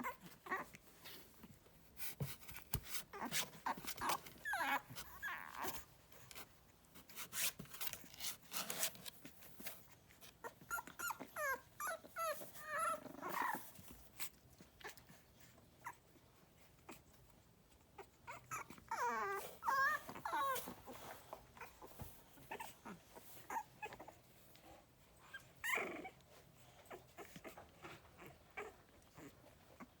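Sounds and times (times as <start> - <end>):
puppies whining and squeaking: 0.0 - 1.3, 1.9 - 30.0
rustles: 0.0 - 30.0.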